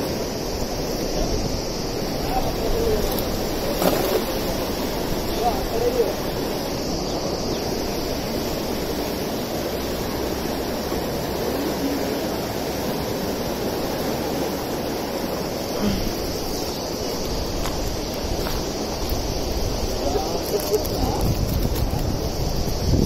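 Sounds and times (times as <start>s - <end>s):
river water rushing: 0.0s - 21.4s.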